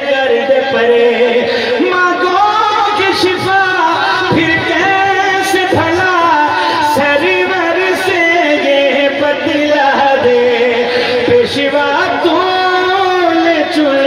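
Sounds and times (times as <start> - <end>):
man singing over loudspeakers: 0.0 - 14.0.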